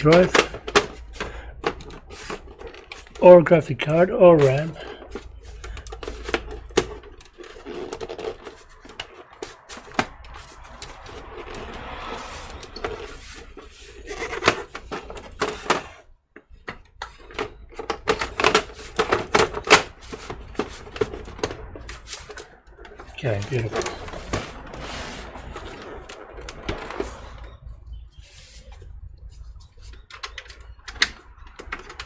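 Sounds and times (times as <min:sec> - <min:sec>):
computer case parts clicking: 0:00.0 - 0:28.9, 0:29.5 - 0:32.0.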